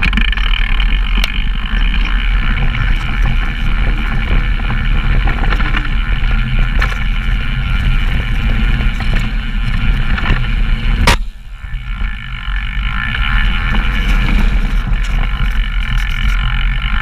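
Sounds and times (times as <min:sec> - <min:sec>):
bike knocking over bumps: 0:00.0 - 0:17.0
bike rattling: 0:00.0 - 0:17.0
bike tyres on dirt: 0:00.0 - 0:17.0
wind buffeting microphone: 0:00.0 - 0:17.0.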